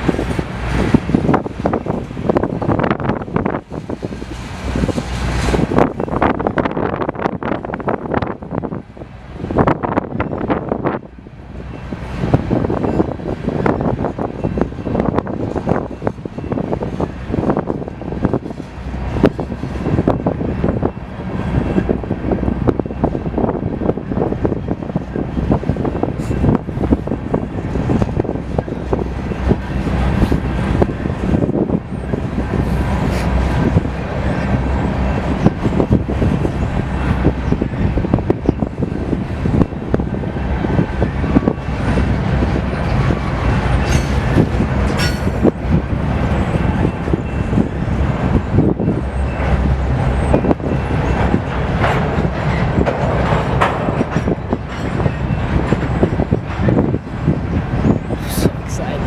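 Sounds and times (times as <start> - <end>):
train cars rumbling: 0.0 - 59.0
wheels clacking on rails: 0.0 - 59.0.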